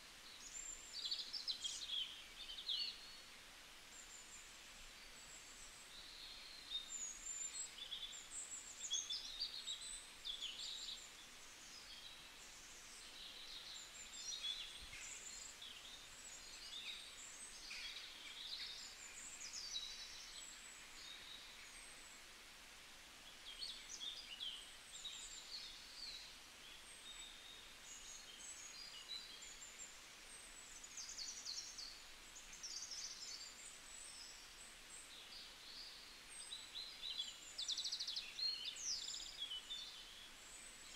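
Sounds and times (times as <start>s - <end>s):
small birds chirping: 0.0s - 22.4s, 23.0s - 40.9s
steady background hiss: 0.0s - 40.9s.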